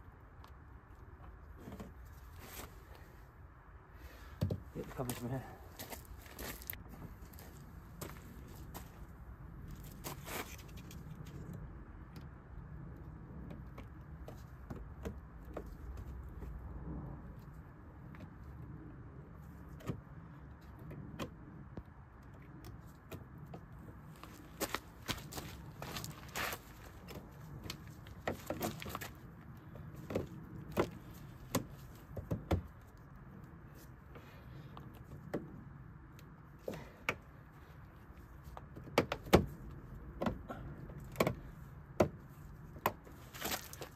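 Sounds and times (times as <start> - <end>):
low steady rumble: 0.0 - 38.8.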